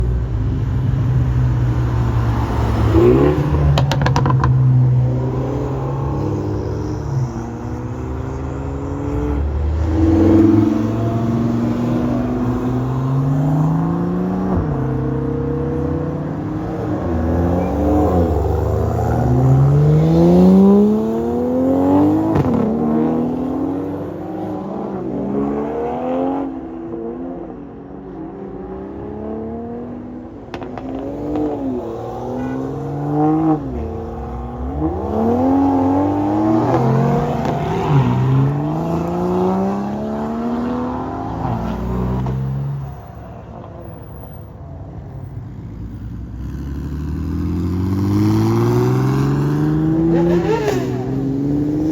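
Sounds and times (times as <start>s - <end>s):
car engines accelerating: 0.0s - 51.9s.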